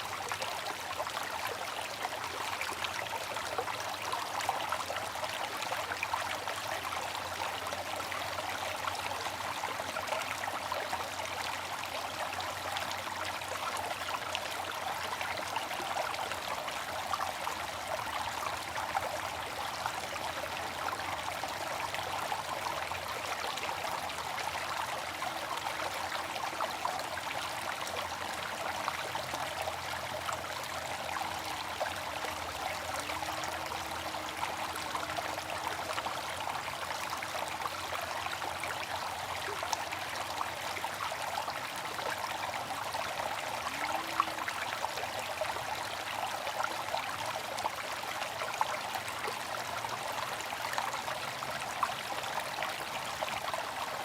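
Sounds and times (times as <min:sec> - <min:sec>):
trickle of falling water: 0:00.0 - 0:54.0.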